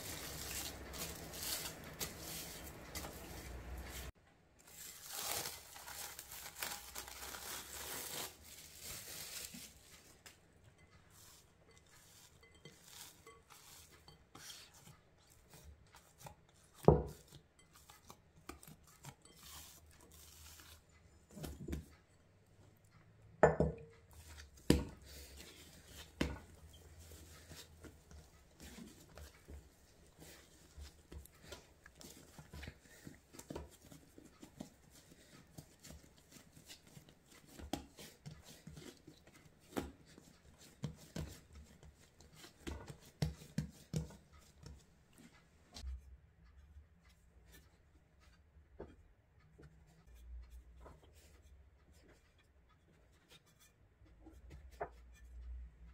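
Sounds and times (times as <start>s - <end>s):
hands kneading dough: 0.0s - 23.0s, 23.6s - 55.9s.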